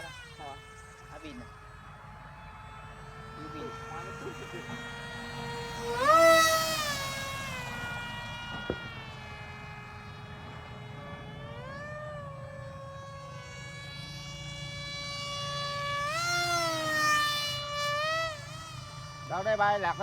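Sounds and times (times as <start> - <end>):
model airplane motor whining: 0.0 - 20.0.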